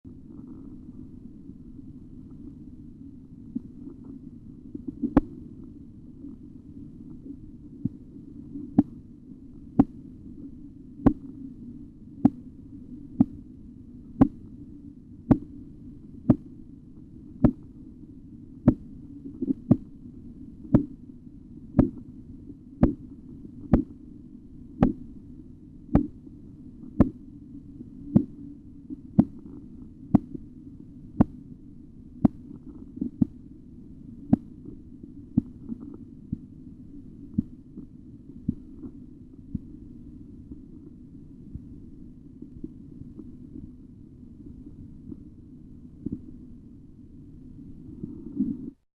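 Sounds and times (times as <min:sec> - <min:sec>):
low rumbling hiss: 0:00.1 - 0:48.8.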